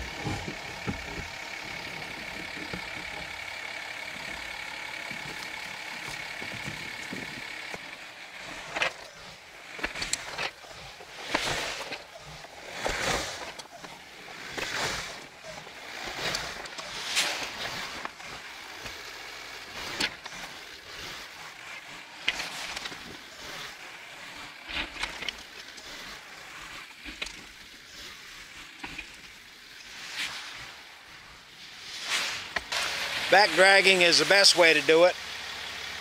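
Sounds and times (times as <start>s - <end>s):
pickup truck engine running: 0.0s - 36.0s
snowplow scraping snow: 0.0s - 36.0s.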